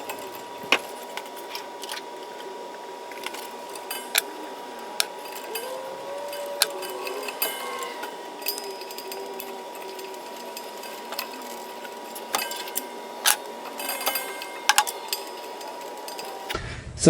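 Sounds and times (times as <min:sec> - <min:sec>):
steady thin hum: 0:00.0 - 0:17.0.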